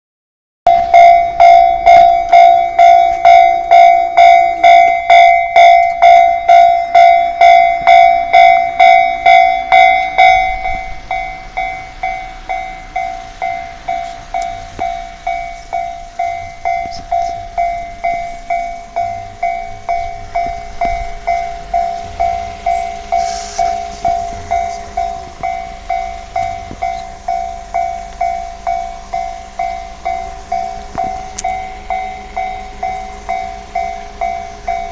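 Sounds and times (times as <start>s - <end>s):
level crossing warning bell: 0.7s - 34.9s.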